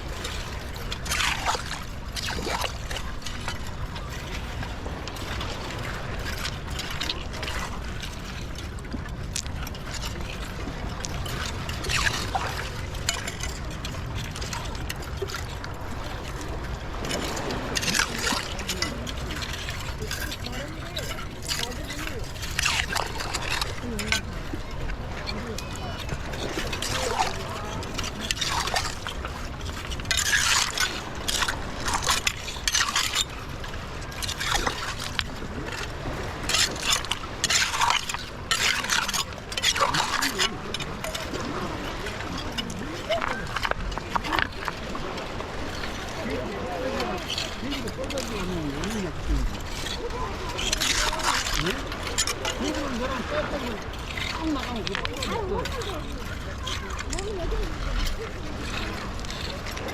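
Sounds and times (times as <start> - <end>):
rake scraping through mud: 0.0 - 59.9
water trickling: 0.0 - 59.9.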